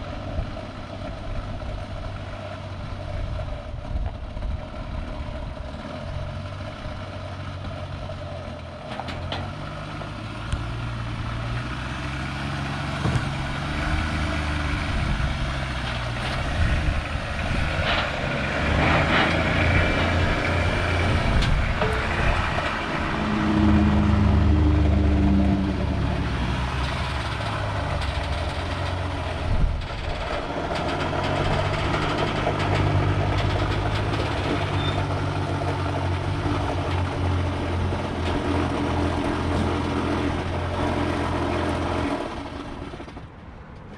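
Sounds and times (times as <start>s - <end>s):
vehicle engine humming: 0.0s - 43.9s.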